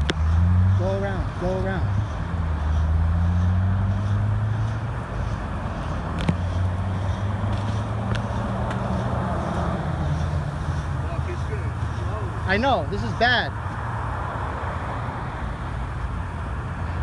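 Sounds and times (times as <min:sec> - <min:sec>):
road traffic noise: 0:00.0 - 0:17.0
vehicle engine running: 0:00.0 - 0:17.0.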